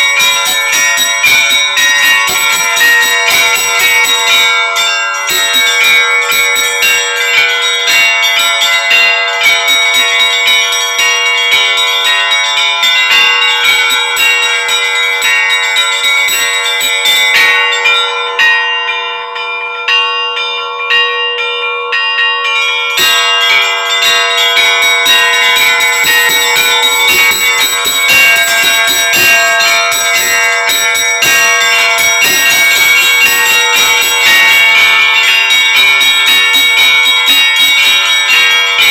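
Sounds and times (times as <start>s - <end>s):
rapid small bell strikes: 0.0s - 19.0s, 22.5s - 38.9s
large church bells ringing: 0.0s - 38.9s.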